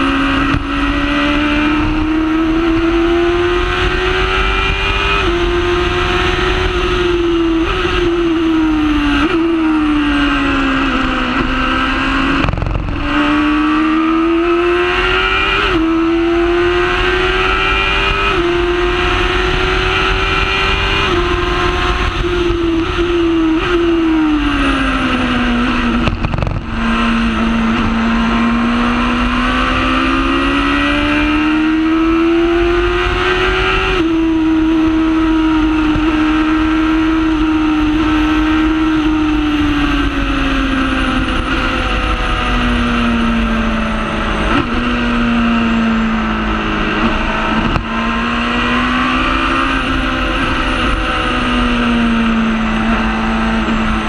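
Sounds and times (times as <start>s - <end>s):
racing car engine at high revs: 0.0s - 54.0s.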